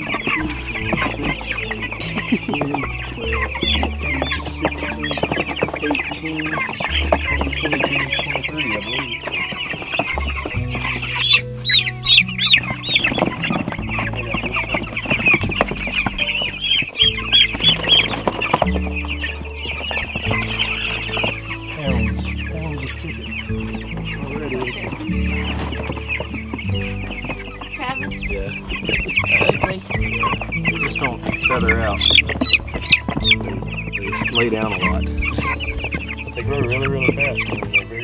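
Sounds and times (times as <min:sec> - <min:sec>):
background music low notes: 0:00.0 - 0:38.0
chicks peeping: 0:00.0 - 0:38.0.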